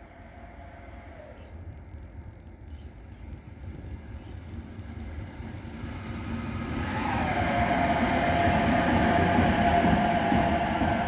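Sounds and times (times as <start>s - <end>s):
locomotive rumble: 0.0s - 11.0s.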